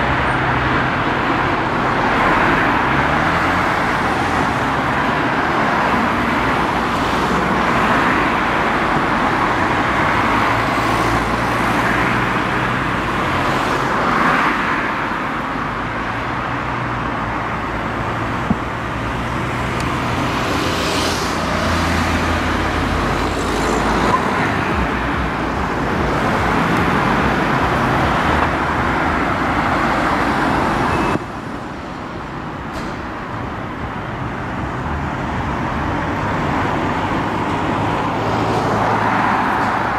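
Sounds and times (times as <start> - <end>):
cars passing by: 0.0 - 39.9.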